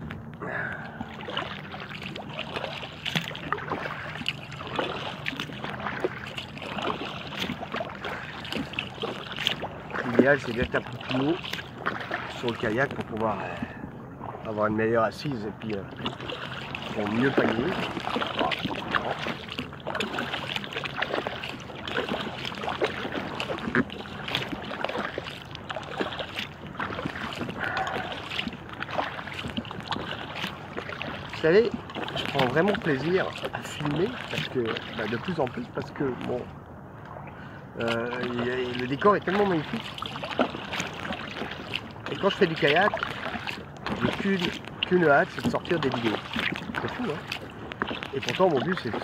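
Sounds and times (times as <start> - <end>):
water lapping against kayak hull: 0.0 - 49.0
small water splashes and drips: 0.3 - 49.0.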